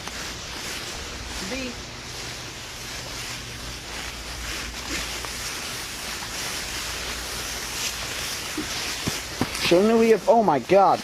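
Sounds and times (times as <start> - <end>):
faint rustles: 0.0 - 11.0.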